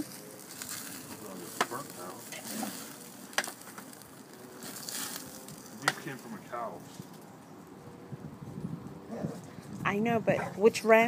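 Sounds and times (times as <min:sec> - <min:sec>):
ribs sizzling over grease fire: 0:00.0 - 0:11.0.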